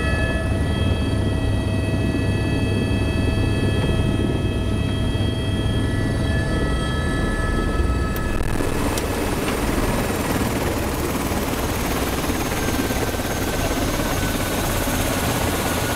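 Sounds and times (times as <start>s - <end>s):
helicopter engine and rotor: 0.0s - 15.9s.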